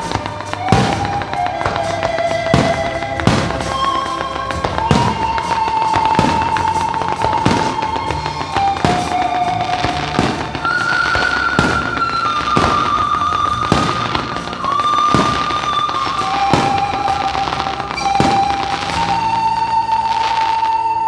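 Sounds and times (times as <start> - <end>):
fireworks bursting: 0.0 - 21.0
music with long held notes: 0.0 - 21.0.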